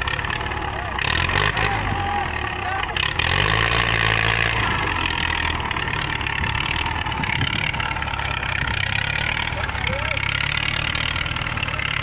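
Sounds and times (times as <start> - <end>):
engine clatter: 0.0 - 12.0
tractor diesel engine drone: 0.0 - 12.0.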